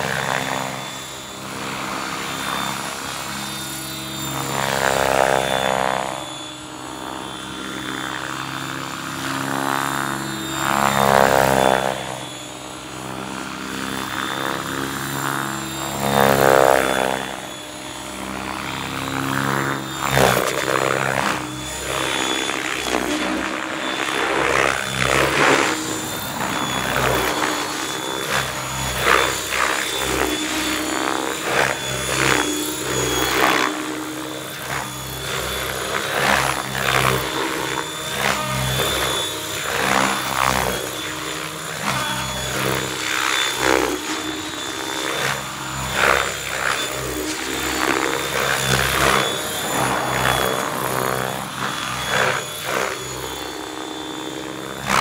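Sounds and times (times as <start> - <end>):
electric motor high whine: 0.0 - 55.0
helicopter rotor blades whooshing: 0.0 - 55.0.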